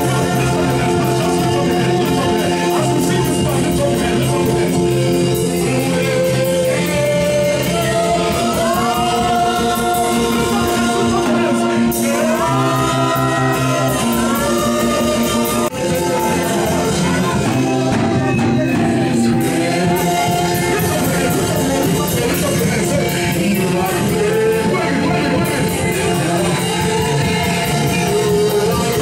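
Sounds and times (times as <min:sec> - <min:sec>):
keyboard: 0:00.0 - 0:29.0
person singing into microphone: 0:00.0 - 0:29.0
steady percussion: 0:00.0 - 0:29.0.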